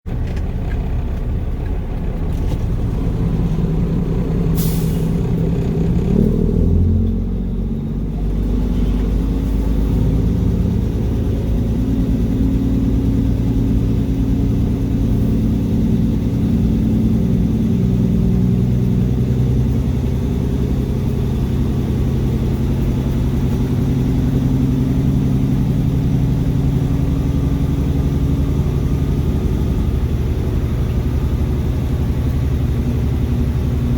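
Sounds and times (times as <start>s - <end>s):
diesel truck engine running: 0.1s - 33.9s.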